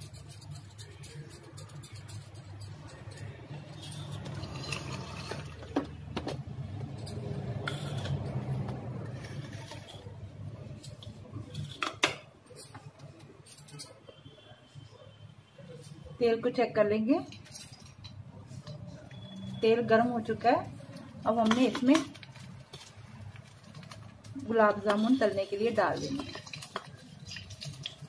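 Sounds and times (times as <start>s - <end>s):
metal utensils clinking: 0.0s - 14.1s, 17.2s - 19.6s, 20.2s - 28.0s.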